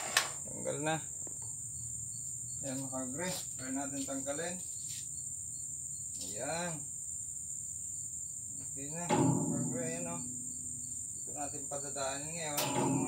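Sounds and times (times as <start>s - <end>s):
faint insect chirp: 0.0s - 13.0s
high-pitched insect drone: 0.0s - 13.0s.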